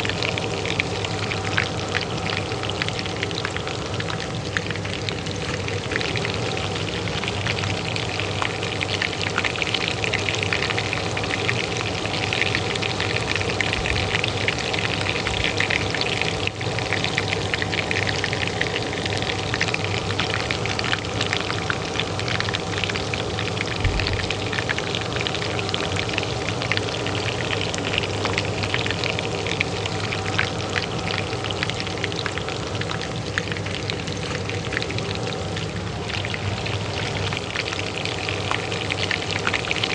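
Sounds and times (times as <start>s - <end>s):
hot oil sizzling in a pan: 0.0s - 39.9s
range hood fan humming: 0.0s - 39.9s.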